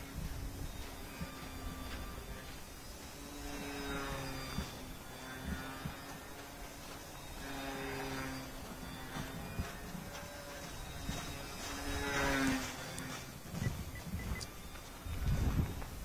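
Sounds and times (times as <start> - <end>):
faint hum of tones: 0.0 - 16.0
wind buffeting microphone: 0.0 - 16.0.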